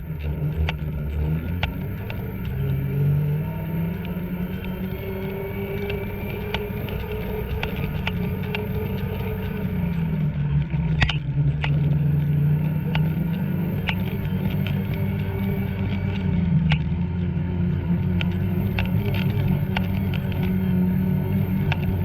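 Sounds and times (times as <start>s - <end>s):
snowmobile engine running: 0.0s - 22.0s
sharp clicks: 0.1s - 17.0s, 17.9s - 22.0s.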